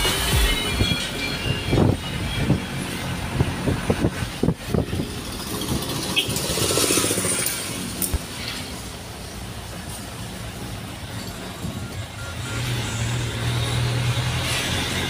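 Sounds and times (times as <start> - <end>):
road noise: 0.0 - 15.0
truck engine running: 0.0 - 15.0.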